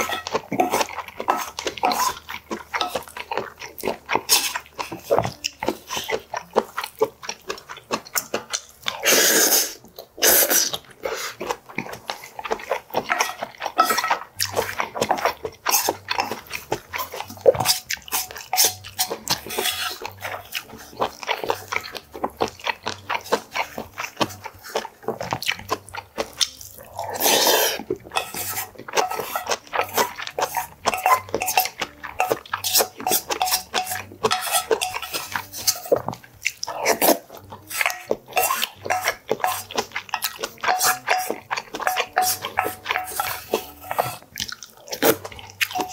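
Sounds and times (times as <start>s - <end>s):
spoon scraping a brass bowl: 0.0s - 7.0s, 12.0s - 24.9s, 26.4s - 45.9s
person chewing: 0.0s - 45.9s.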